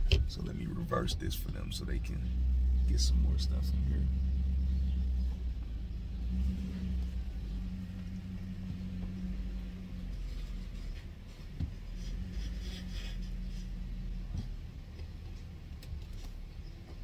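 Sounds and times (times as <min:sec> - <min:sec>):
steady low hum: 0:00.0 - 0:17.0
truck engine running at low revs: 0:00.0 - 0:17.0.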